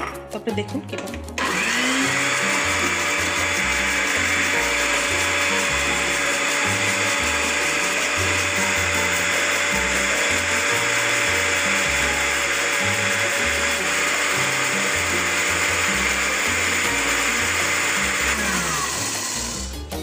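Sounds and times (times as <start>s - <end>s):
blender running: 1.4s - 20.0s.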